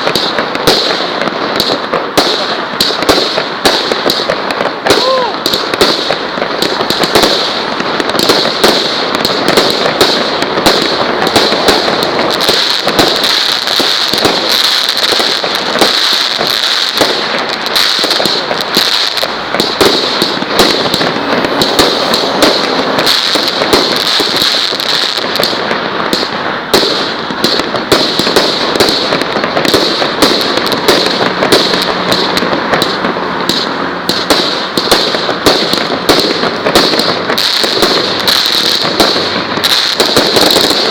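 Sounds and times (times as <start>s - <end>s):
fireworks bangs and pops: 0.0s - 40.9s.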